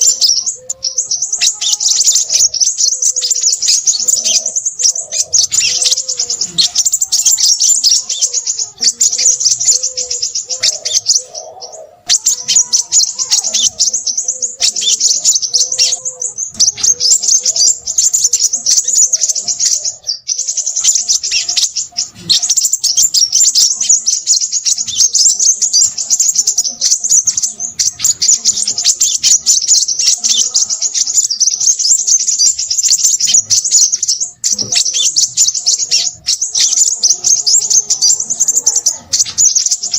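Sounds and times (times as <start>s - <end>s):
bird chattering twitter: 0.0s - 39.9s.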